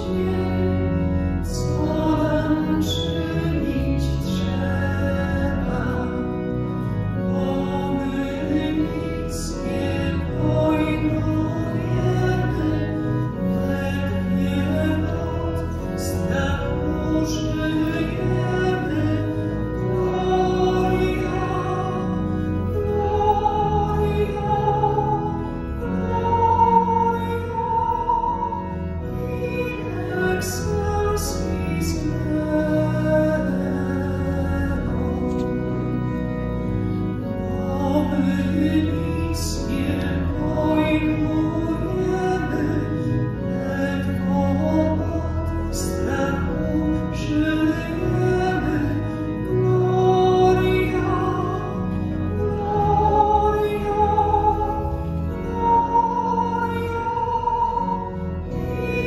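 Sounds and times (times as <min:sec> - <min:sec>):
organ chords: 0:00.0 - 0:59.0
voices singing a hymn: 0:00.0 - 0:59.0.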